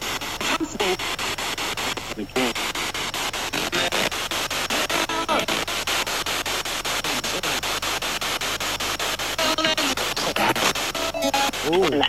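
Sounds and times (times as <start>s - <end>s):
pulsing radio static: 0.0s - 12.0s
broadcast voice fragments: 0.4s - 7.8s, 9.3s - 12.0s.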